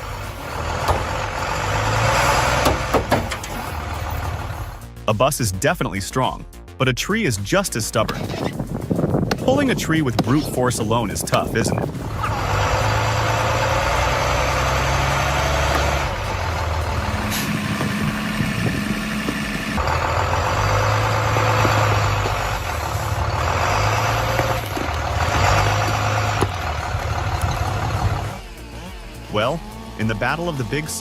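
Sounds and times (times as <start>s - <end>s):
large vehicle engine running: 0.0s - 5.0s, 7.8s - 31.0s.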